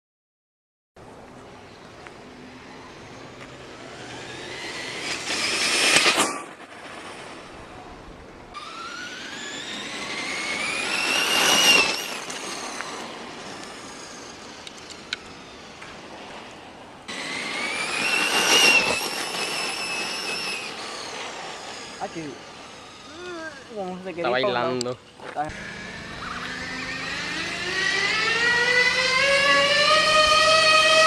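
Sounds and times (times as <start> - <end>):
radio-controlled car motor whine: 2.6 - 7.5, 8.5 - 31.0.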